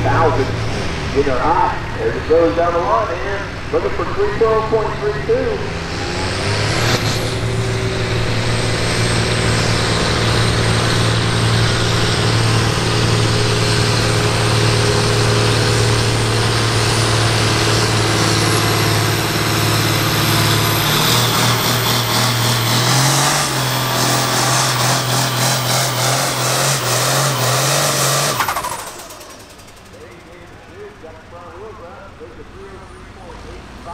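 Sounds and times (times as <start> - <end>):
tractor engine drone: 0.0 - 33.9.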